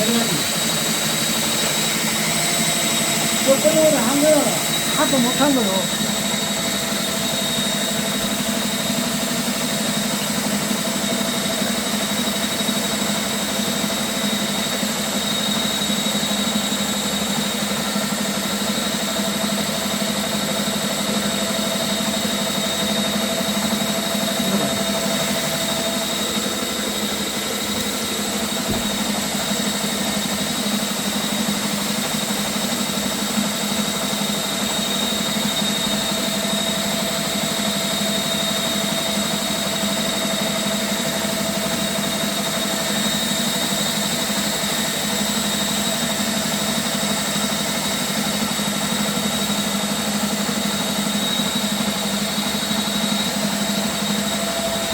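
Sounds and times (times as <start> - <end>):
drain cleaning machine humming: 0.0 - 54.9.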